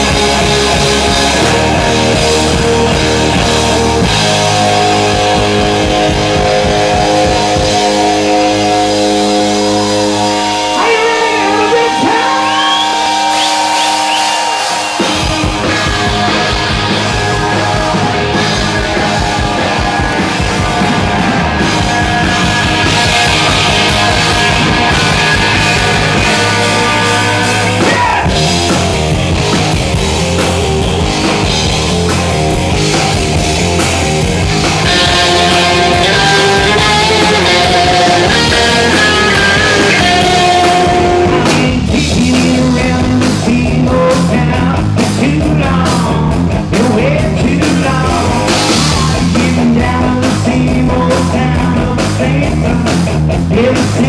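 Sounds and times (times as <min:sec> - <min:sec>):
held electric guitar chords: 0:00.0 - 0:54.0
live rock band playing: 0:00.0 - 0:54.0.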